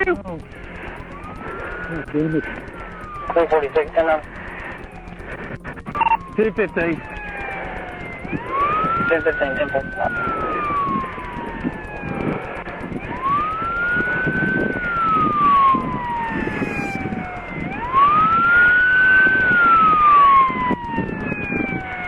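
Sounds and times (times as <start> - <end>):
low rumble of vehicle: 0.0 - 22.0
police siren wailing: 0.0 - 22.0.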